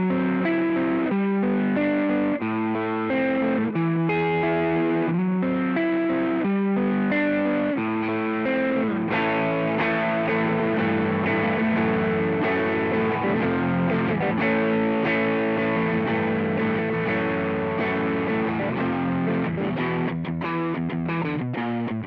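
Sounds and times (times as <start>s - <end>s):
overdriven electric guitar notes: 0.0s - 22.0s.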